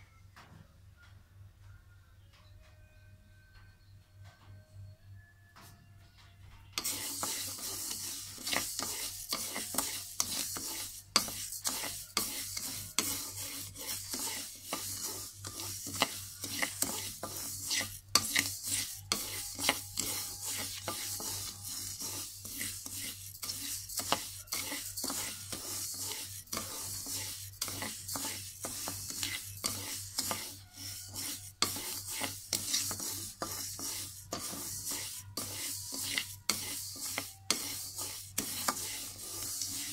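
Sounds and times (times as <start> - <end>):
wooden paddle scraping rice in wok: 6.8 - 39.9.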